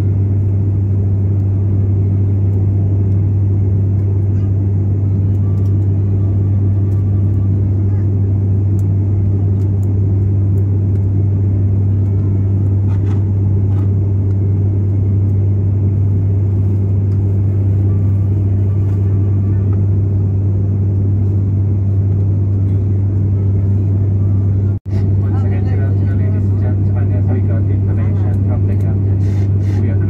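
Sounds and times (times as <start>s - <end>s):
turboprop cabin drone: 0.0s - 30.0s.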